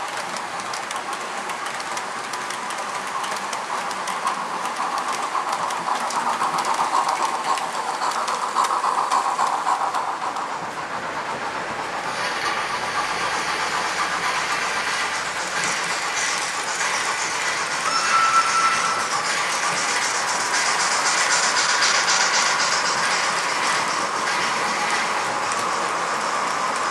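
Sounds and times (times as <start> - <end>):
model train wheels clicking: 0.0 - 26.9
steam hiss: 1.0 - 26.9.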